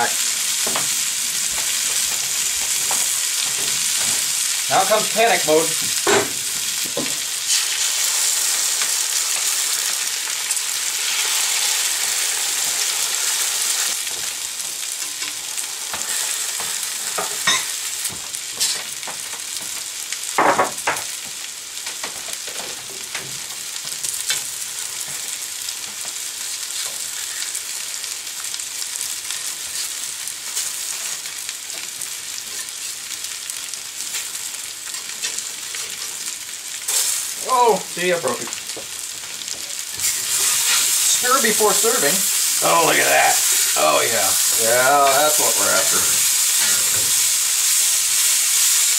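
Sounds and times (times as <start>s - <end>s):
eggs sizzling in a pan: 0.0s - 48.9s.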